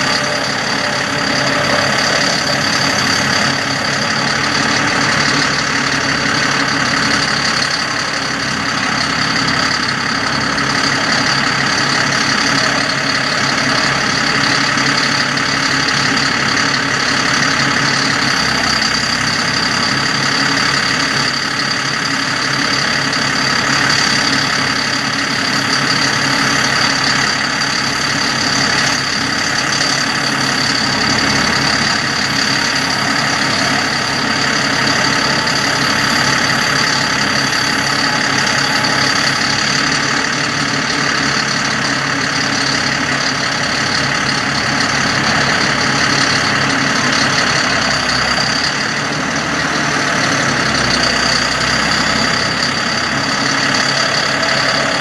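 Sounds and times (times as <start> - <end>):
steady high tone: 0.0 - 55.0
truck engine running: 0.0 - 55.0.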